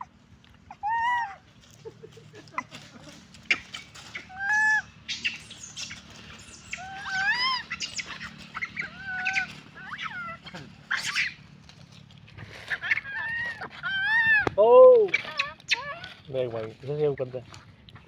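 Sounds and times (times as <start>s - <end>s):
high animal calls: 0.0s - 16.8s
rustling: 0.0s - 18.0s.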